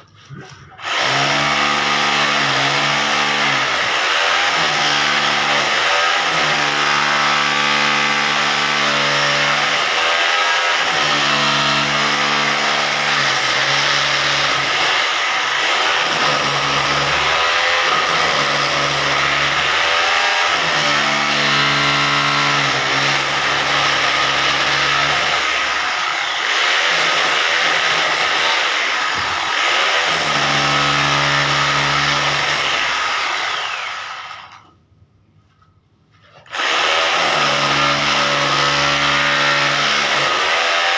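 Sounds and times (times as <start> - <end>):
electric hammer drill cutting: 0.8 - 34.7, 36.5 - 40.9.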